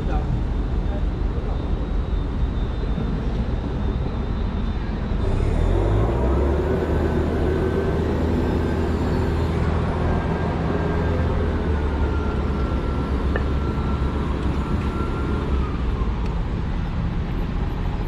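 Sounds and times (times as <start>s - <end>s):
large vehicle engine and tyres: 0.0s - 18.0s.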